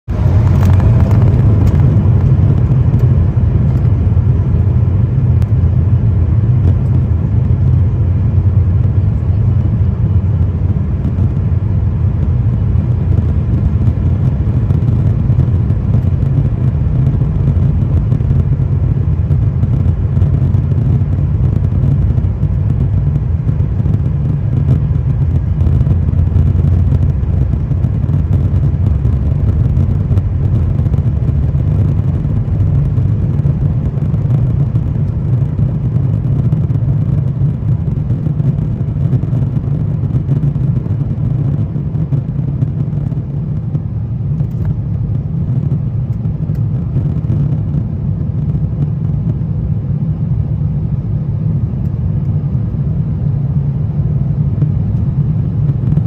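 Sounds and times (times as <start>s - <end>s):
jet engines and wheels rumbling: 0.0s - 56.0s.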